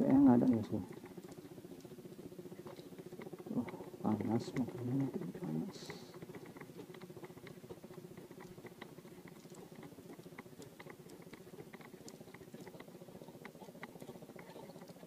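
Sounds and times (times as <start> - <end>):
fishing line clicking on spool: 0.0 - 15.0.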